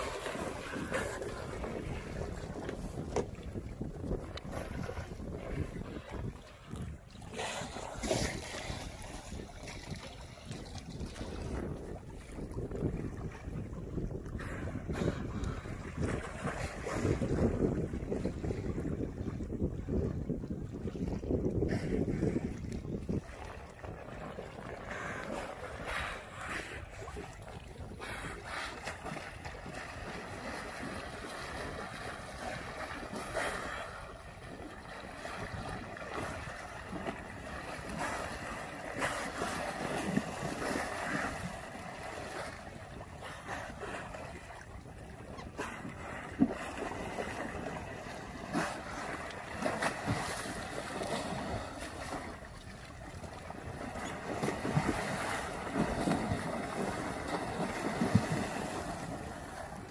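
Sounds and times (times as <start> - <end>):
small waves lapping: 0.0 - 59.9
wind buffeting the microphone: 0.0 - 59.9.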